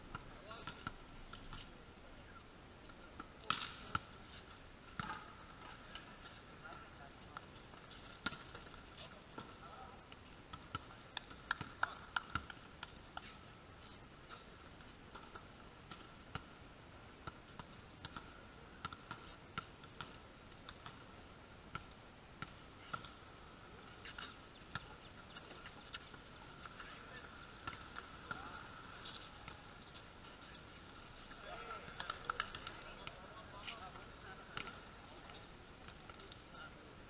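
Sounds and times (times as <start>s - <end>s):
shoes on a concrete court: 0.0s - 37.0s.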